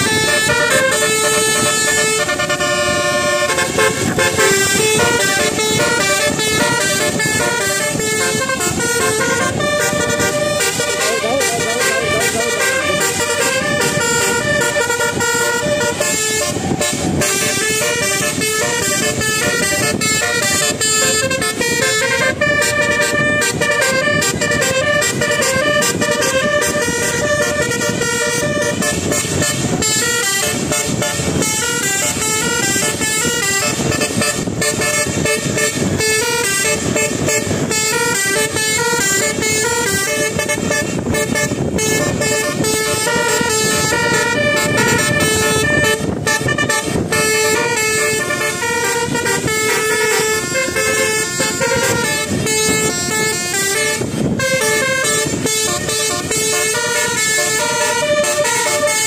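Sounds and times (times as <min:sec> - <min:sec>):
musical air horn melody: 0:00.0 - 0:59.0.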